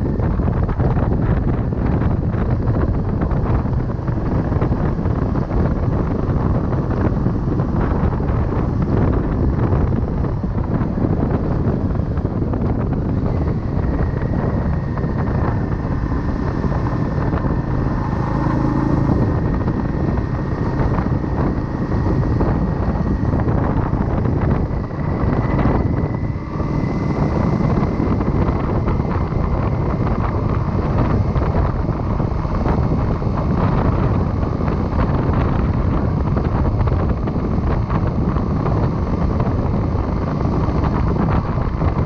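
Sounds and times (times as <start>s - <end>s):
faint steady whine: 0.0s - 42.0s
motorcycle engine running: 0.0s - 42.0s
wind buffeting microphone: 0.0s - 42.0s.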